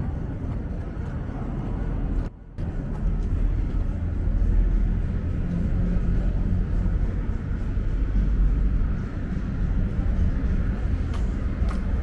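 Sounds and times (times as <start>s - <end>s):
city ambience rumble: 0.0s - 12.0s.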